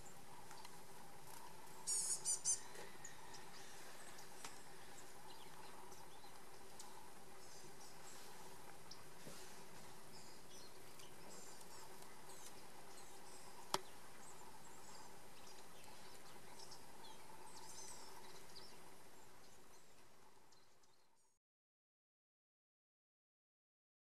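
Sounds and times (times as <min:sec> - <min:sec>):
steady low hum: 0:00.0 - 0:21.3
small birds chirping: 0:00.0 - 0:21.4.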